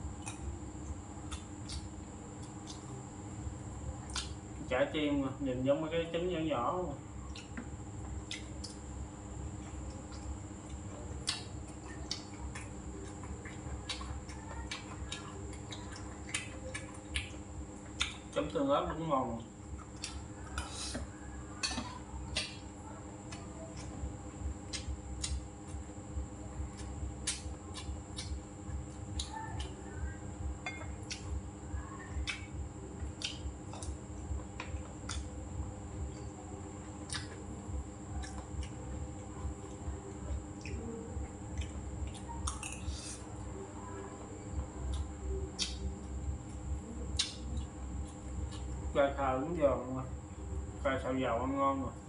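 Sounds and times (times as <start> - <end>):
faint steady hum: 0.0 - 52.0
chewing and wet mouth noises: 0.1 - 3.2, 3.9 - 4.4, 7.2 - 48.9.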